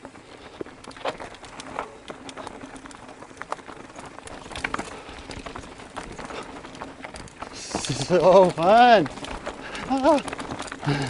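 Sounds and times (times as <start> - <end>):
bike rattling clicks and knocks: 0.0 - 11.0
tyres crunching over rock: 0.0 - 11.0.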